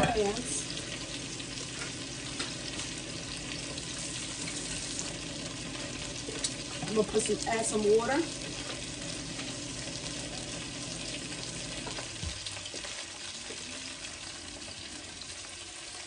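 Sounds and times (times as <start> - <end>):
meat sizzling in grease: 0.0 - 16.0.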